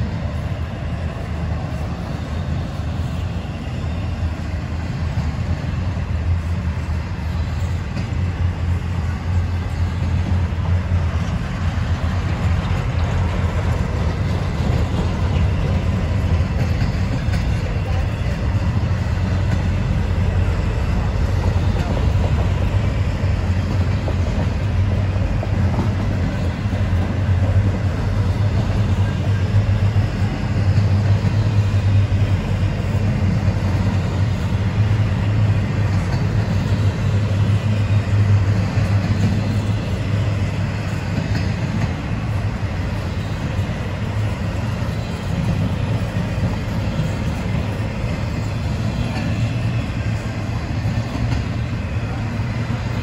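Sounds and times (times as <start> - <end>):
freight train wheels rumbling on rails: 0.0 - 53.0.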